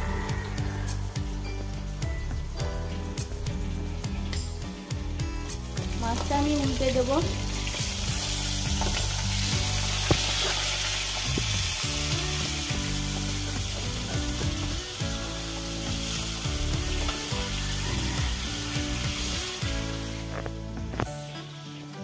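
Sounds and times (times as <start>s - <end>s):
fish sizzling in hot oil: 0.0s - 21.8s.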